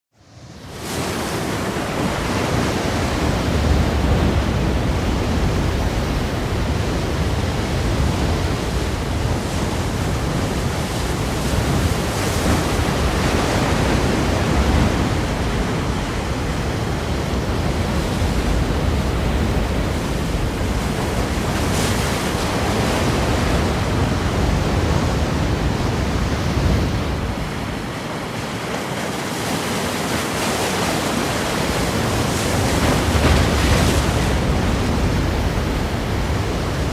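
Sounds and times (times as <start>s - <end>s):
ocean waves breaking against rocks: 0.4s - 36.9s.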